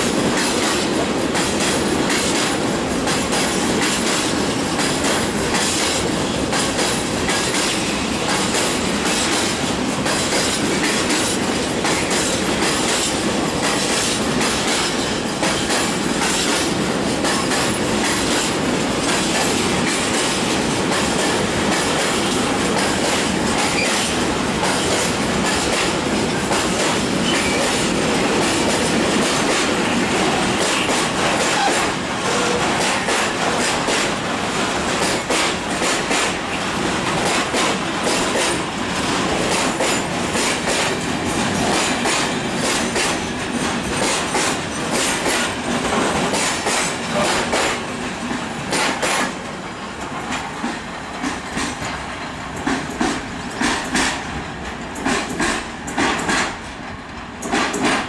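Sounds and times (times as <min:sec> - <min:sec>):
wheels clacking over rail joints: 0:00.0 - 0:58.0.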